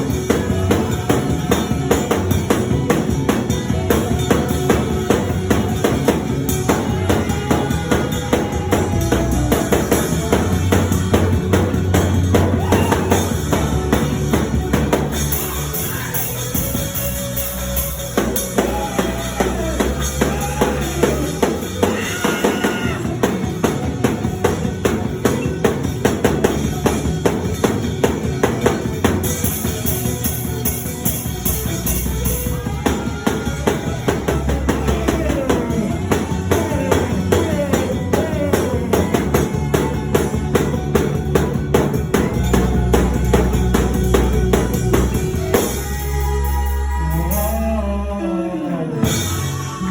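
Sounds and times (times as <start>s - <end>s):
rapid snare and kick drums: 0.0s - 47.6s
live band music: 0.0s - 49.9s.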